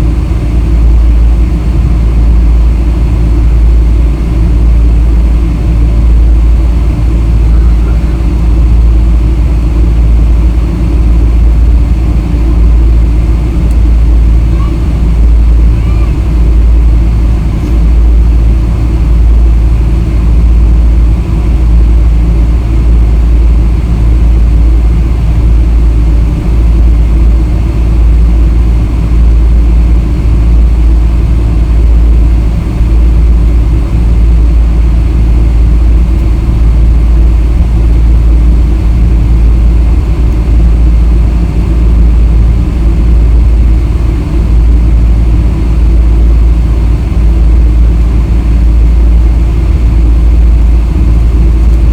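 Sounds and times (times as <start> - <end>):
airliner engines rumbling: 0.0 - 51.9.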